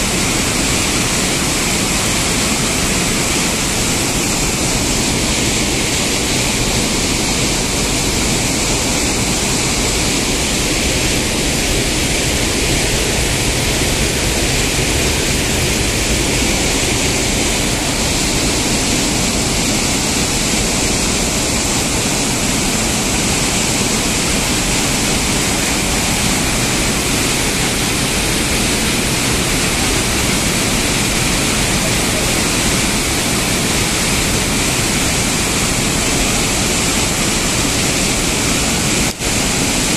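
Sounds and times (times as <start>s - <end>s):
water rushing from spillway: 0.0s - 39.9s.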